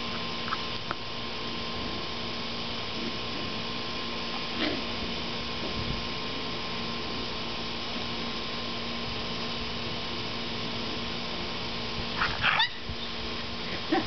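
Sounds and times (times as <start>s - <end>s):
background hum with hiss: 0.0s - 14.0s.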